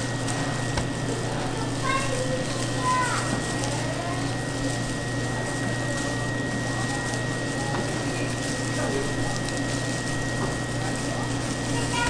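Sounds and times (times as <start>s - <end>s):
faint voices: 0.0s - 12.0s
machine hum with high whine: 0.0s - 12.0s.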